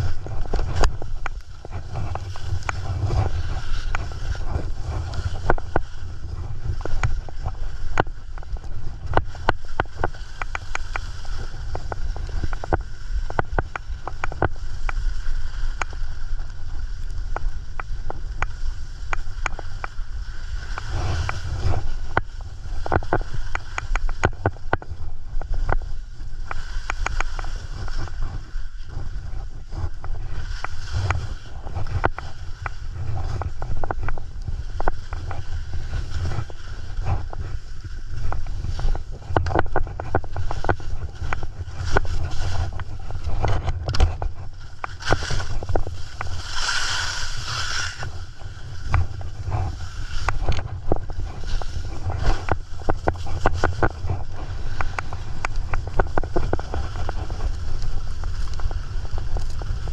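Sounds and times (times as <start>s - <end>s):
skis scraping on snow: 0.0s - 59.9s
wind rumbling on microphone: 0.0s - 59.9s.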